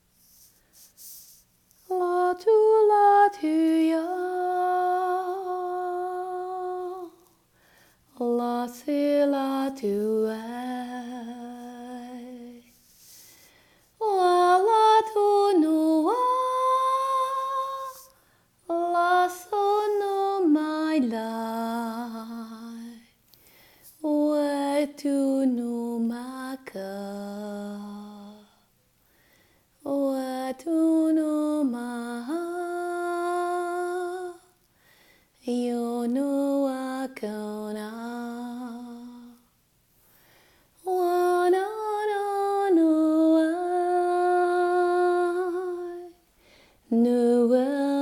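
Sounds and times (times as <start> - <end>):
woman singing without words: 1.8 - 23.2, 23.9 - 28.7, 29.8 - 34.6, 35.3 - 39.6, 40.8 - 48.0.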